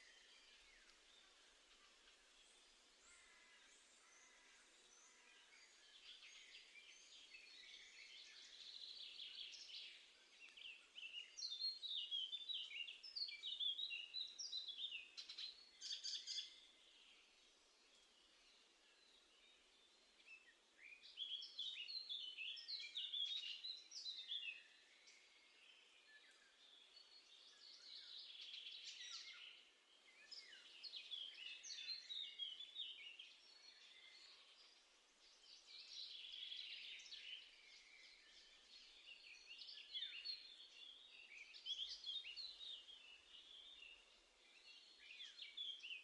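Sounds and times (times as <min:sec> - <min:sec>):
faint background noise: 0:00.0 - 0:46.0
songbirds singing: 0:00.0 - 0:46.0.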